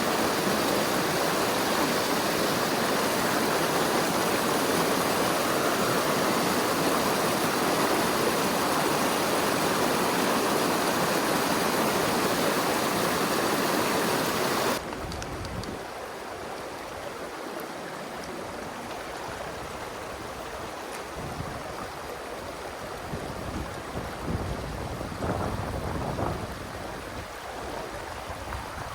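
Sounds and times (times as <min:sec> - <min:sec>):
rushing stream water: 0:00.0 - 0:28.9.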